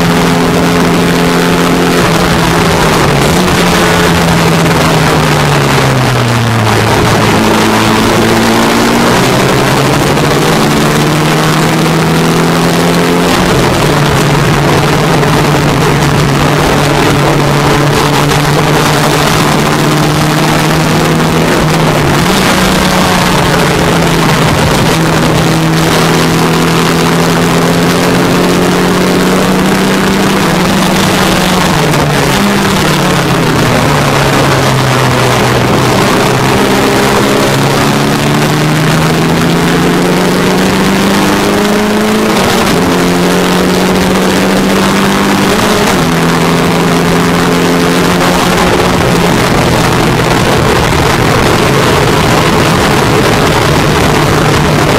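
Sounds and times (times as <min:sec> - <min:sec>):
racing car engine: 0:00.0 - 0:54.9.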